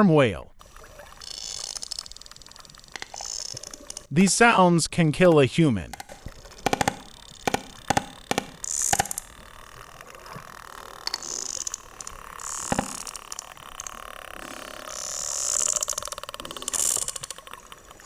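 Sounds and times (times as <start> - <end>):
whale clicks underwater: 0.6 - 4.1, 5.9 - 18.0.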